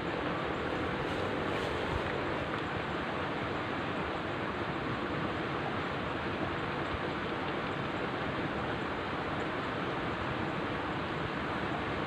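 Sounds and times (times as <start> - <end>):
rushing outdoor noise: 0.0 - 12.0.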